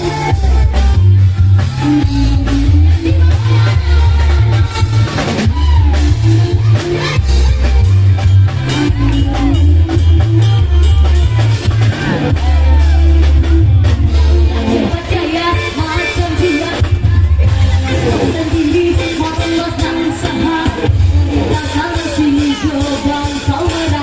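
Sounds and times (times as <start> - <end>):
heavy pulsing bass: 0.0 - 24.0
programmed drum beat: 0.0 - 24.0.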